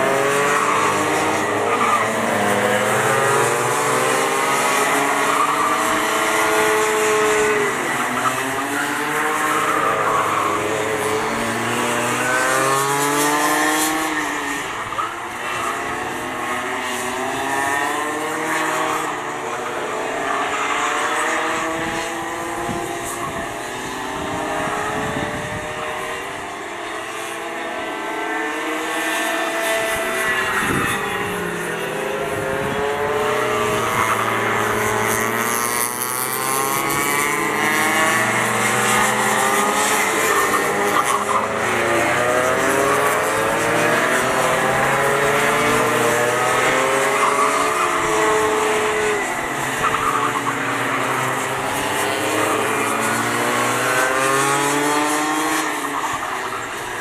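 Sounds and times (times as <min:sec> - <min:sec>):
go-kart engines whining: 0:00.0 - 0:57.0.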